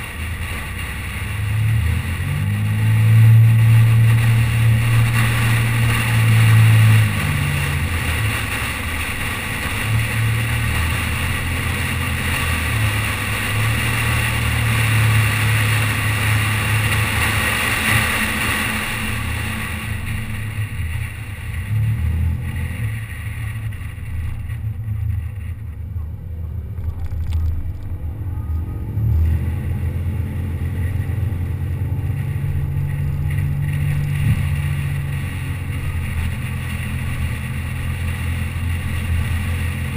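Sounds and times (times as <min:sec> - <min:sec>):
car engine running: 0:00.0 - 0:39.9
rushing wind and road noise: 0:00.0 - 0:39.9.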